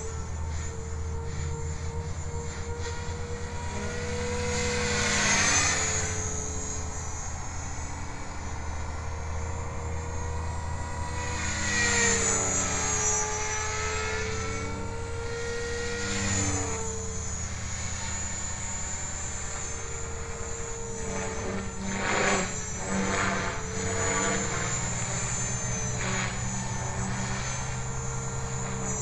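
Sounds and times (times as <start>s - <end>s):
rc helicopter rotor whine: 0.0s - 29.0s.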